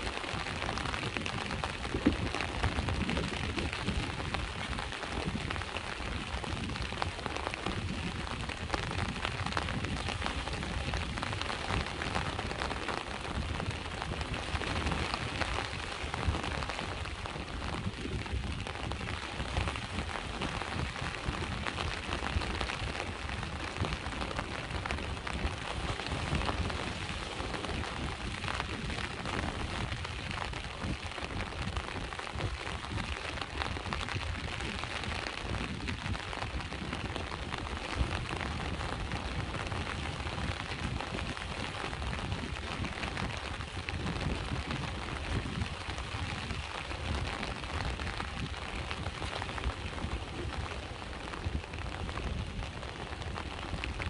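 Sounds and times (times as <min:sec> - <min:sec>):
rain pattering: 0:00.0 - 0:54.0
sea waves rumbling: 0:00.0 - 0:54.0.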